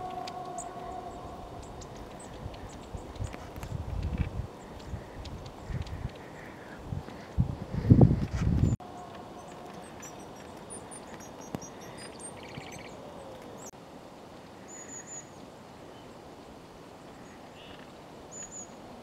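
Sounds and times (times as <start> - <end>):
small songbirds calling: 0.1 - 8.0, 8.7 - 13.7, 14.6 - 16.2, 17.0 - 18.9.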